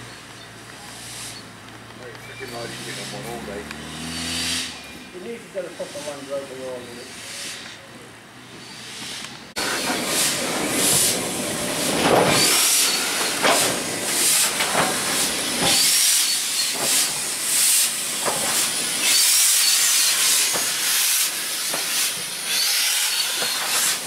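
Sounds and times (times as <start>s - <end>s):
steam locomotive hissing: 0.8s - 1.5s, 4.5s - 7.9s, 8.6s - 24.0s.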